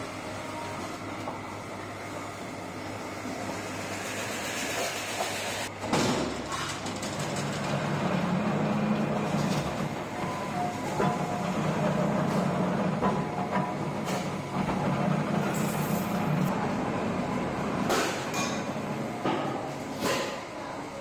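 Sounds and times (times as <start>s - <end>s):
power press machine hum: 0.0s - 20.5s.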